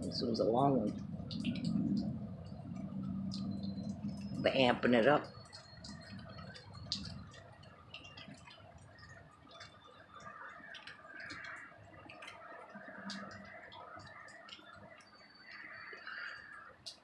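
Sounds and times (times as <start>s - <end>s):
faint steady hum: 0.0s - 17.0s
small ticks and clicks: 0.0s - 17.0s.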